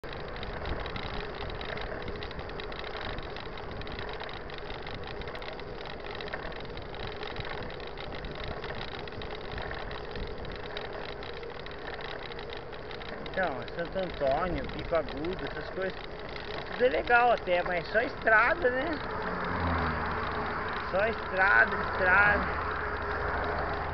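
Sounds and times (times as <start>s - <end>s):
bike tyre noise on asphalt: 0.0s - 23.9s
wind on camera: 0.0s - 23.9s.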